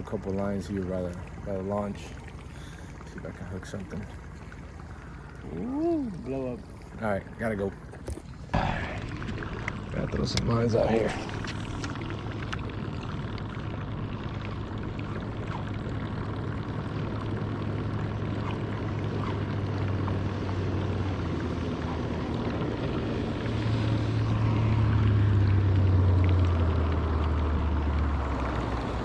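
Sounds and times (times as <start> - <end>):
outboard boat motor running: 0.0 - 29.0.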